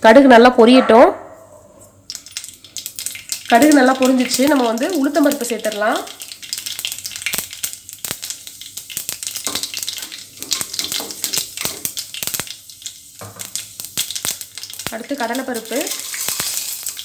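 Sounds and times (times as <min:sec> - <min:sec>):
seeds crackling in hot oil: 0:02.0 - 0:17.0.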